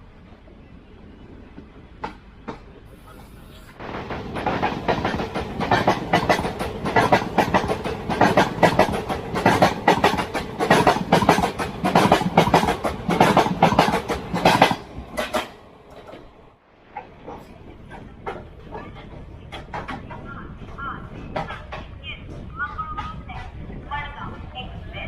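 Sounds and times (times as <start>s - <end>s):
train wheels clattering over rails: 1.5s - 23.7s.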